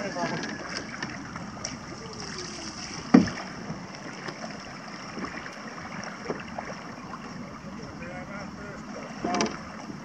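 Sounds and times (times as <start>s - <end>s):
paddle splashes: 0.0s - 10.0s
water against canoe hull: 0.0s - 10.0s.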